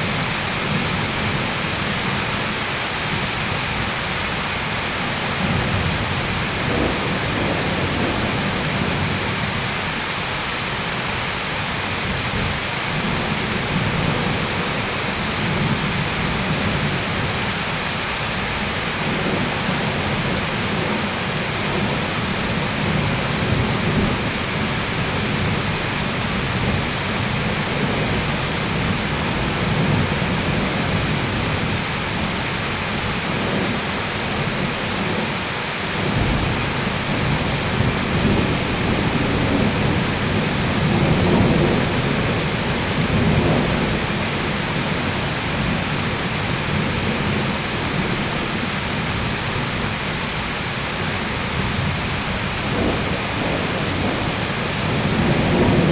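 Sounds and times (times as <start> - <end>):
heavy rain: 0.0 - 55.9
thunder rumbling: 0.0 - 55.9.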